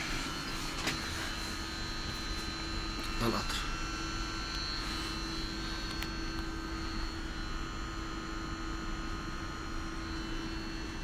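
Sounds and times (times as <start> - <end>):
train cabin rumble and whine: 0.0 - 11.0.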